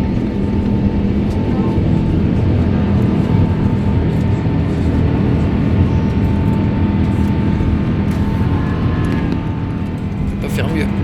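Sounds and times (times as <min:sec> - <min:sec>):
jet engine noise: 0:00.0 - 0:11.0
wind buffeting microphone: 0:00.0 - 0:11.0.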